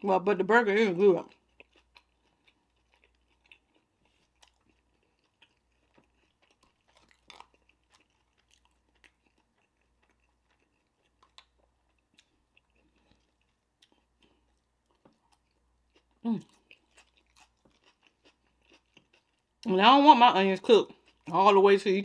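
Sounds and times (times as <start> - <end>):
faint chewing: 1.0 - 19.8, 20.6 - 22.0.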